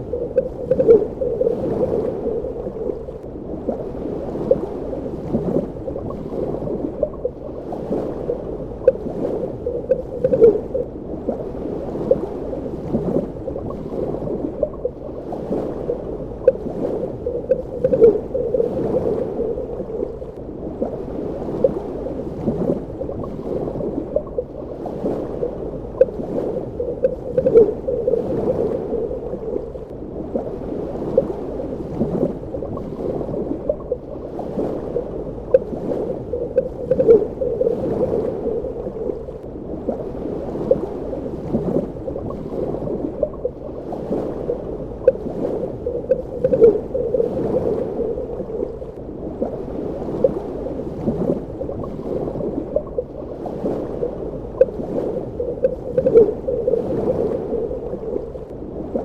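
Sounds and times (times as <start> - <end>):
muffled underwater gurgling: 0.0 - 59.0.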